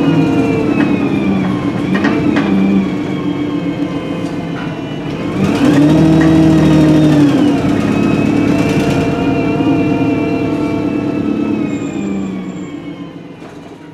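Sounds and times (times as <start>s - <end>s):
gearbox whine: 0.0s - 13.7s
bus engine pulling: 0.0s - 13.9s.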